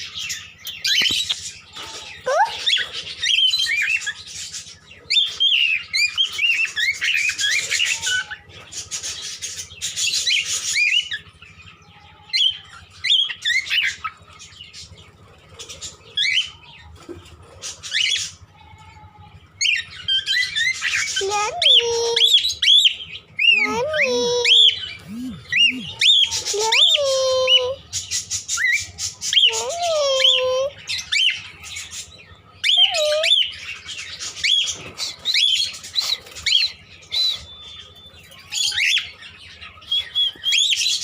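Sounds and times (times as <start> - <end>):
cockatiels chirping and calling: 0.0 - 41.0.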